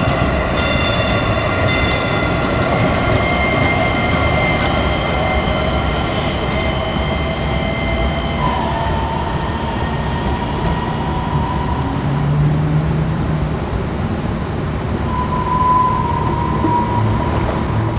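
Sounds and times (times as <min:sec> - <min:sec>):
low steady train tone: 0:00.0 - 0:17.9
train wheels rumbling: 0:00.0 - 0:17.9.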